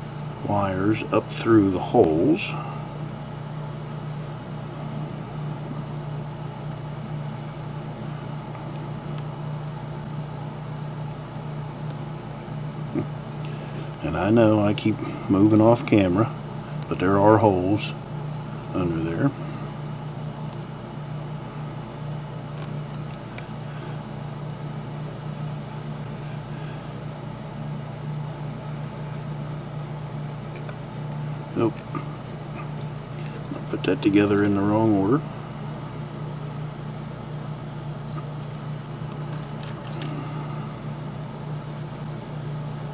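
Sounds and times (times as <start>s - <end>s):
low background hum: 0.0s - 42.9s.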